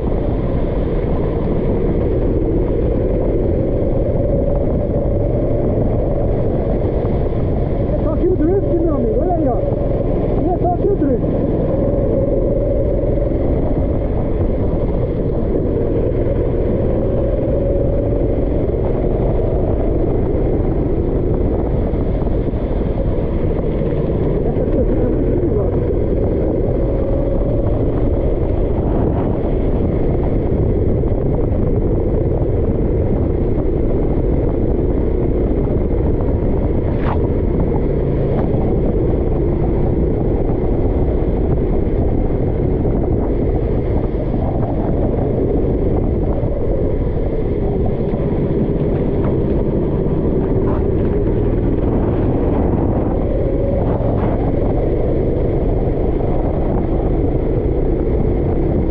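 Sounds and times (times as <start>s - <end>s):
kart engine running: 0.0s - 58.9s
steady rushing noise: 0.0s - 58.9s.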